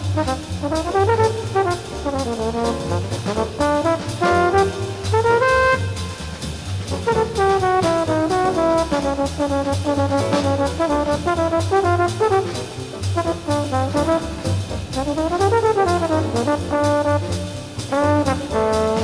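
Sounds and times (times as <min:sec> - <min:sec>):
double bass walking: 0:00.0 - 0:19.0
drums keeping time: 0:00.0 - 0:19.0
trombone jazz solo: 0:00.0 - 0:19.0.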